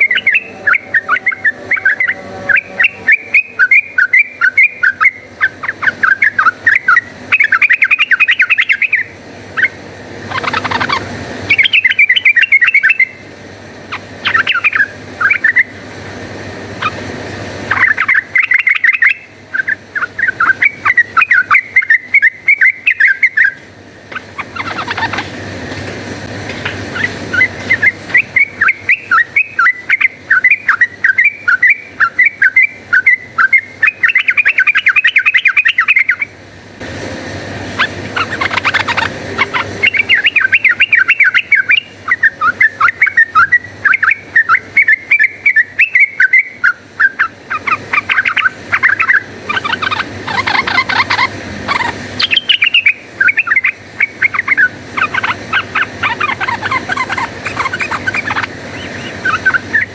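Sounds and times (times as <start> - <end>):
bird singing chattering runs: 0.0 - 13.2, 13.9 - 15.8, 17.7 - 25.6, 26.6 - 36.2, 37.8 - 59.9.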